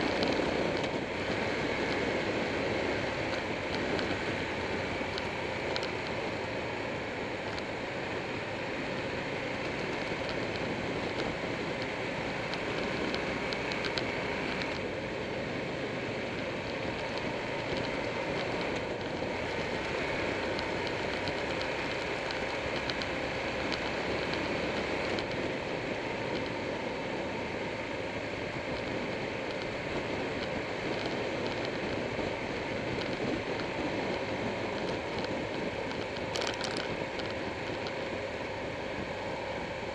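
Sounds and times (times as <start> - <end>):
motorcycle engine and tyres: 0.0 - 39.9
wind rushing over camera: 0.0 - 39.9.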